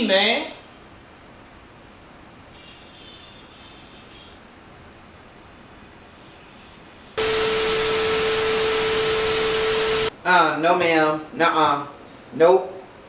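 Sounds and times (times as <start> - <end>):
loud static hiss with hum: 0.0 - 12.6.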